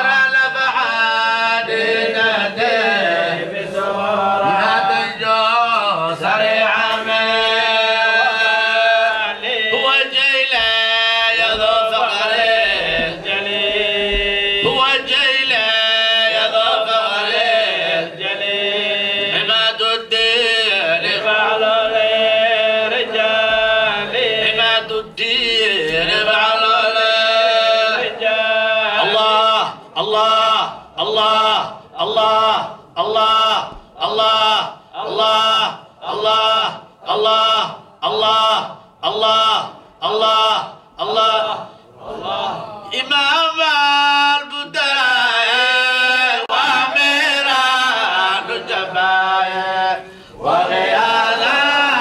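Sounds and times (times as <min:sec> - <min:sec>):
men chanting: 0:00.0 - 0:52.0.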